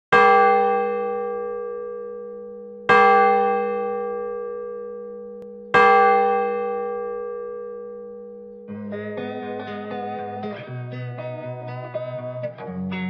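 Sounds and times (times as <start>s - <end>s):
deep bell-like tone: 0.2s - 13.0s.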